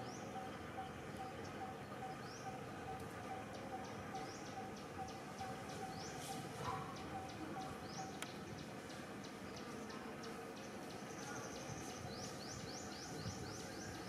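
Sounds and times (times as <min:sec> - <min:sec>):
birds chirping: 0:00.0 - 0:14.0
steady outdoor hum: 0:00.0 - 0:14.0.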